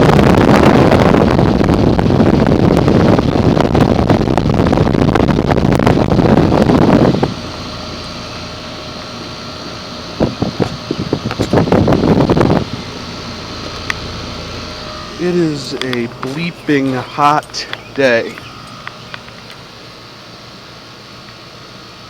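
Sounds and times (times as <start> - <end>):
fan air rushing on microphone: 0.0 - 22.0
fan and compressor hum: 0.0 - 22.0.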